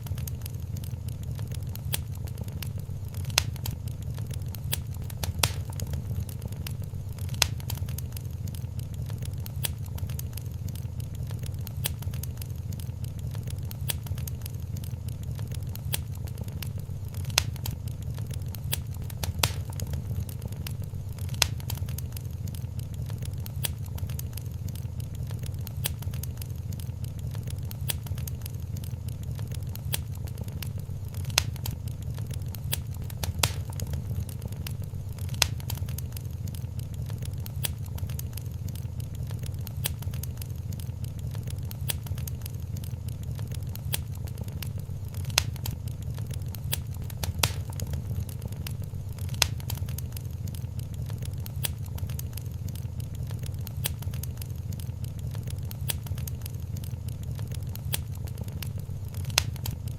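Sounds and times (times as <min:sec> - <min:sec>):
sharp pops of fire: 0:00.0 - 0:59.9
wood fire crackling: 0:00.0 - 0:59.9.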